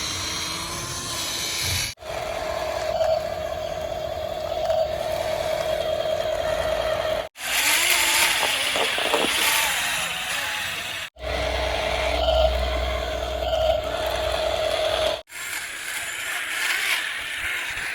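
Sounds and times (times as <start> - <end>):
small electric motors whining: 0.0 - 17.9.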